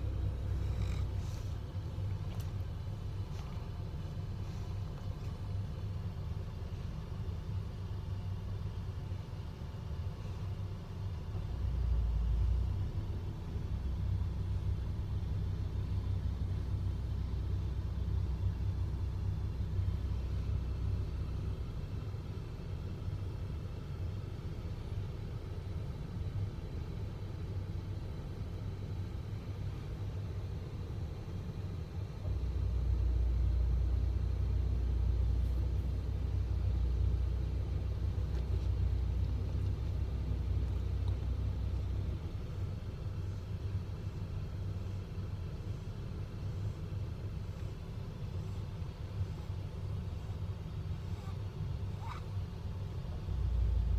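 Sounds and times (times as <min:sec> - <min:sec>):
car air conditioning: 0:00.0 - 0:53.9
car engine idling rumble: 0:00.0 - 0:53.9.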